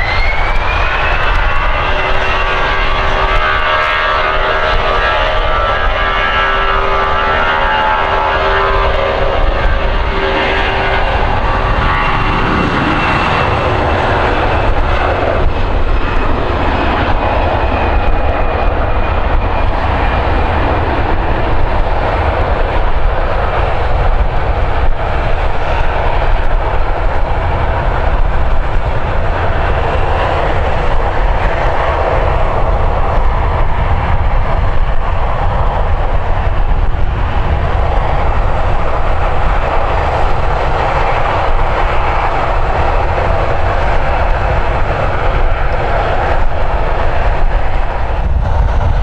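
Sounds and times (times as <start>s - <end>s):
aircraft engines roaring: 0.0s - 49.0s
whine of pitched tones: 0.0s - 49.0s.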